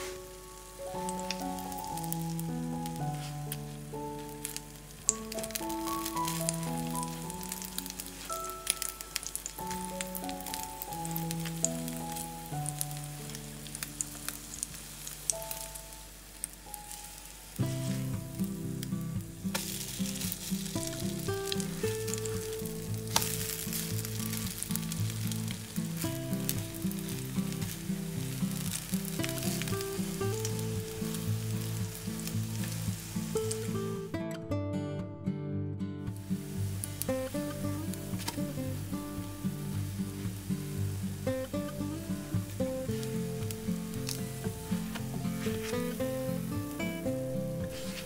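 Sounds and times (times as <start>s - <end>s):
bread sizzling in a pan: 0.0s - 34.2s, 36.1s - 48.0s
soft background music: 0.0s - 48.0s.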